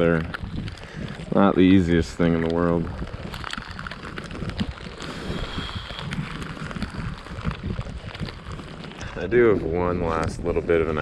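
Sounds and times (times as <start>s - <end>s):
rain pattering: 0.0s - 11.0s
wind buffeting microphone: 0.0s - 11.0s.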